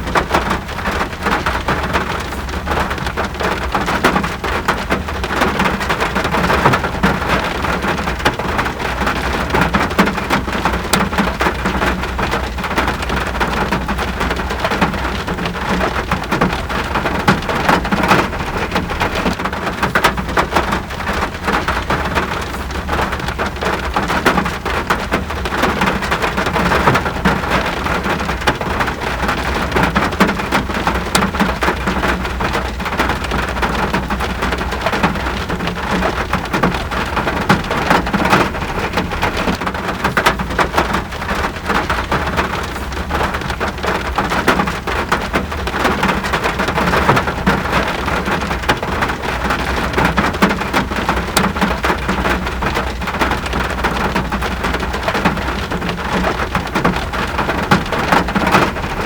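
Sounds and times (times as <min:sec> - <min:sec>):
rain patter: 0:00.0 - 0:59.0.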